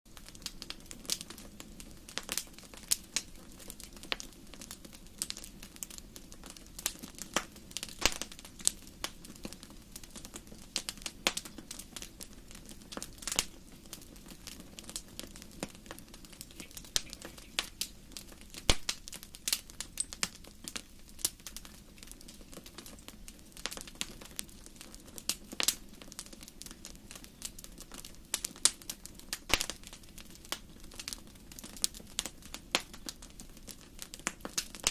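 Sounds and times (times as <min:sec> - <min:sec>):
campfire crackling and popping: 0:00.1 - 0:34.9
low hiss of flame: 0:00.1 - 0:34.9.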